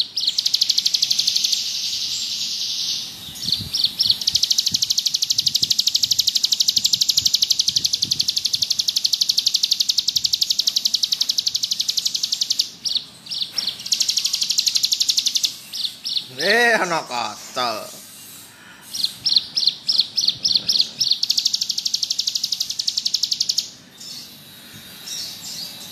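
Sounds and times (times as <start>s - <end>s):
bird buzzing trill: 0.0s - 25.9s.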